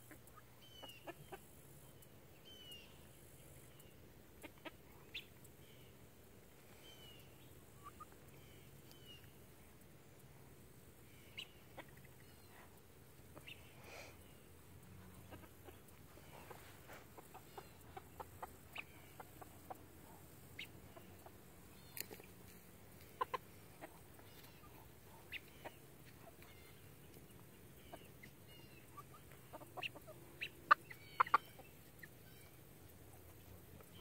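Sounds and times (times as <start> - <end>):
hens clucking: 0.0 - 34.0.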